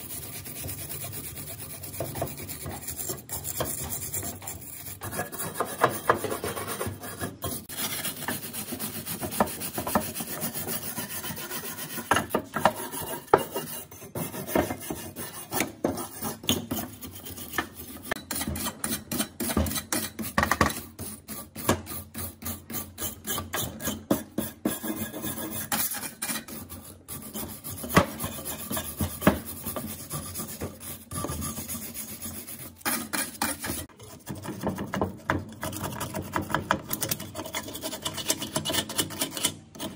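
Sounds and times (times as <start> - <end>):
hand tool rasping on rusty metal: 0.0 - 20.4, 21.0 - 34.6.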